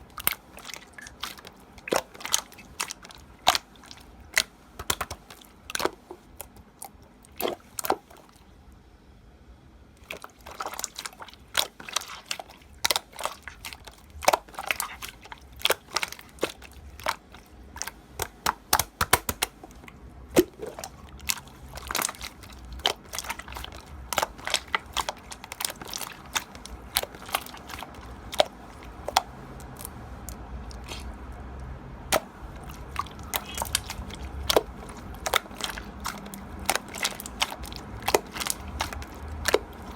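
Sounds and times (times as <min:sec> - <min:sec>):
slime squeezed by hand: 0:00.0 - 0:08.3, 0:10.0 - 0:31.2, 0:32.1 - 0:39.9.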